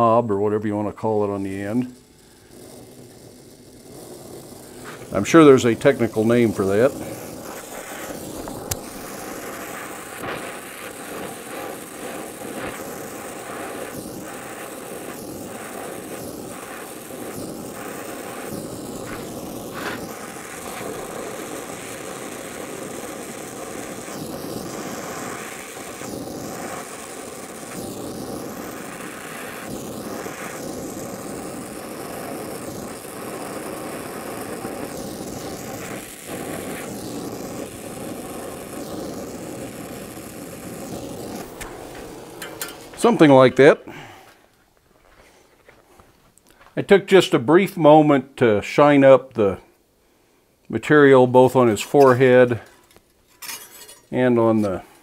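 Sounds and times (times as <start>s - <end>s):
welding torch flame hissing: 0.0s - 48.1s, 50.6s - 55.0s.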